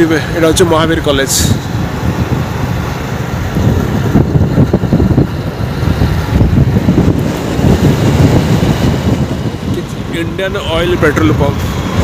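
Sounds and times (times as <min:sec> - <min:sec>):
motorcycle road noise: 0:00.0 - 0:12.0
wind buffeting the microphone: 0:00.0 - 0:12.0.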